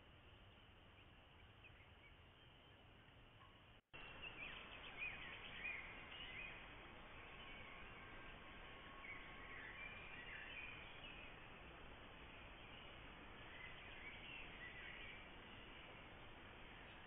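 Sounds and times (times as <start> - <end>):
faint outdoor hiss: 0.0 - 17.0
faint bird chirps: 0.1 - 17.0.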